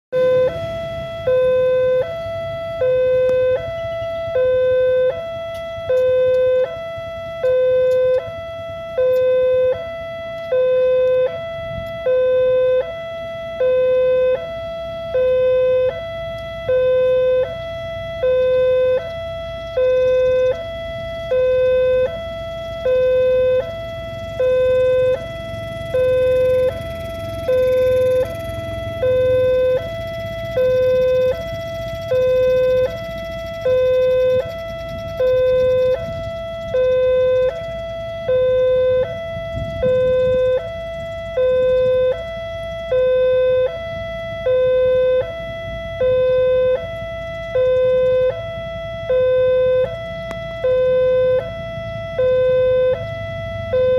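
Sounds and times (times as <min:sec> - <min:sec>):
level crossing two-tone alarm: 0:00.1 - 0:53.9.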